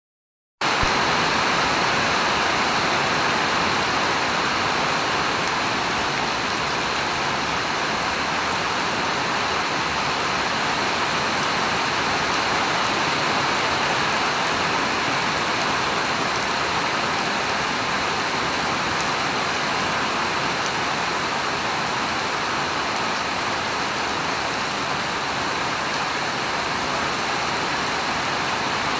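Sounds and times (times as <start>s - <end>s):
heavy rain falling: 0.6s - 28.9s.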